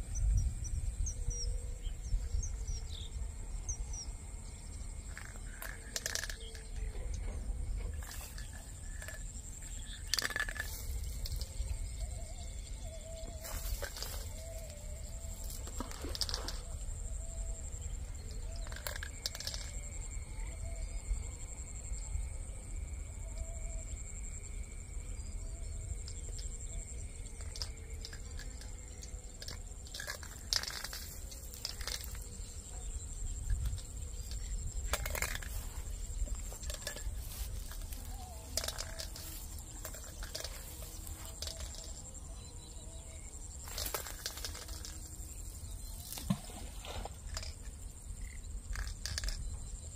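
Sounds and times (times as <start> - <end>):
wind rumble on microphone: 0.0 - 43.6.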